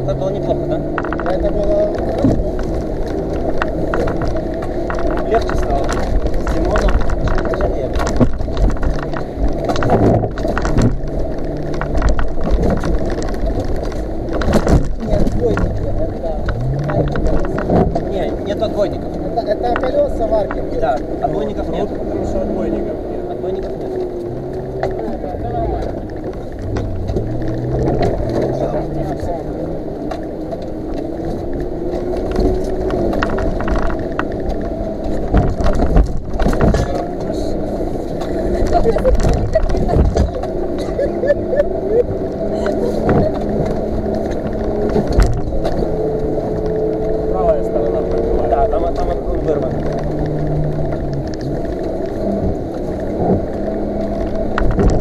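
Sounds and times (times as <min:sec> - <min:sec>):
knocks and rattles: 0:00.0 - 0:22.7, 0:23.4 - 0:55.0
vehicle engine running under load: 0:00.0 - 0:55.0
water splashing over vehicle: 0:00.0 - 0:55.0.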